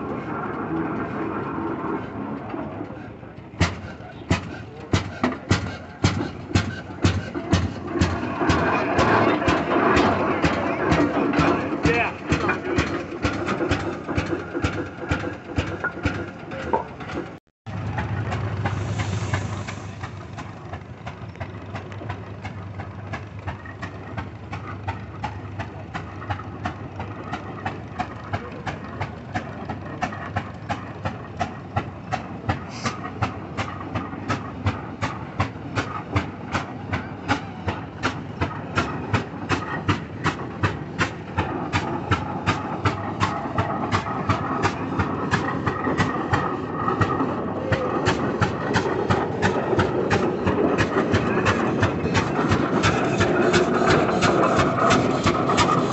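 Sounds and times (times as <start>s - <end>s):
engine exhaust beats: 0.0s - 55.9s.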